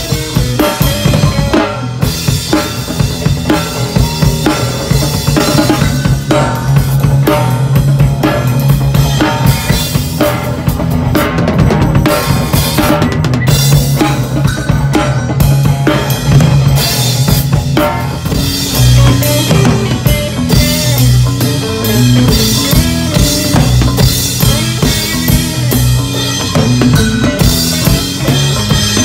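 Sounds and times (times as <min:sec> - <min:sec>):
drum kit pounding: 0:00.0 - 0:29.0
electric guitar low notes: 0:00.0 - 0:29.0.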